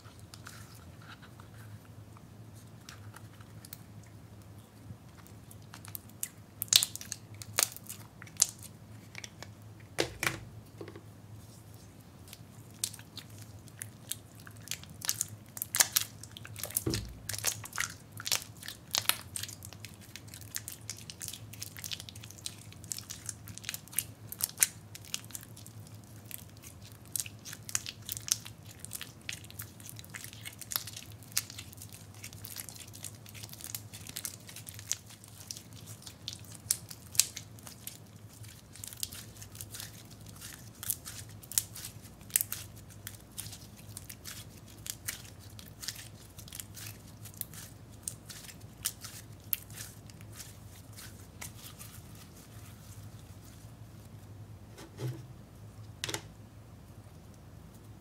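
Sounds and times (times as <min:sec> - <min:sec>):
slime squelching in hands: 0:02.6 - 0:09.9, 0:11.3 - 0:54.3.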